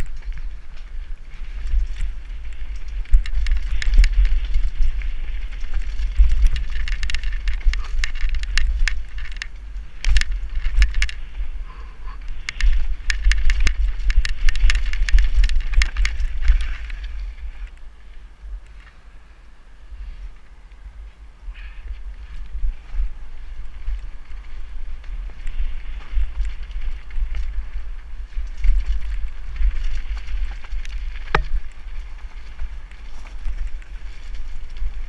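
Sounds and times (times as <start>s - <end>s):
bike rattling over rocks: 0.0s - 11.6s, 12.2s - 17.8s, 21.9s - 35.0s
wind buffeting microphone: 0.0s - 18.9s, 19.8s - 35.0s.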